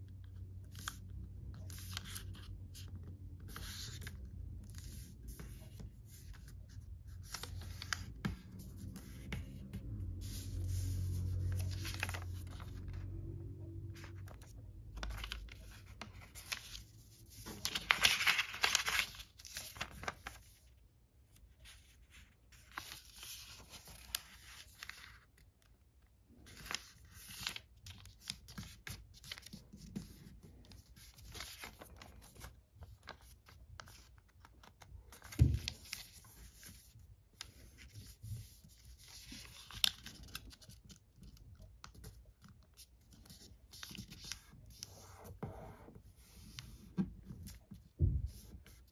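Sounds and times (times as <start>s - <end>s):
paper rustling and crinkling: 0.7s - 13.1s, 14.0s - 48.9s.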